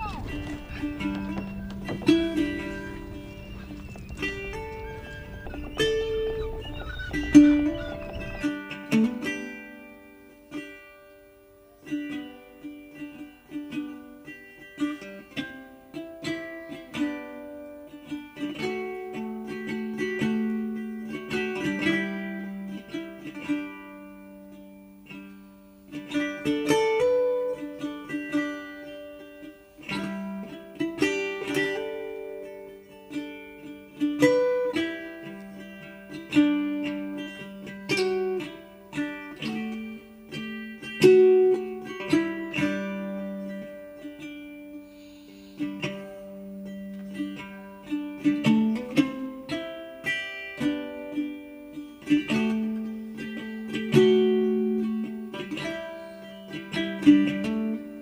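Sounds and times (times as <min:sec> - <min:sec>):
plucked-string tune: 0:00.0 - 0:58.0.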